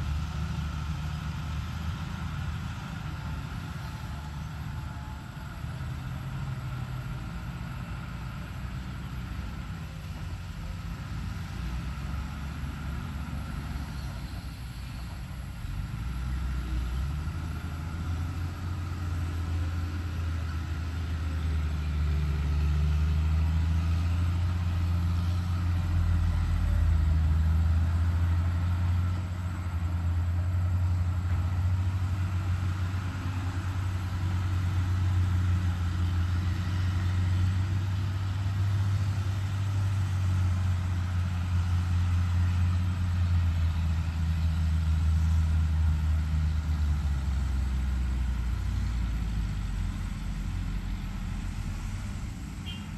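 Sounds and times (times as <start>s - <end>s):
excavator diesel engine drone: 0.0s - 52.9s.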